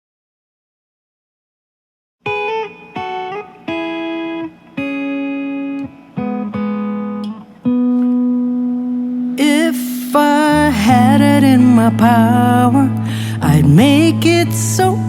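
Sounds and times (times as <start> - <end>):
guitar chords ringing: 2.2 - 15.0.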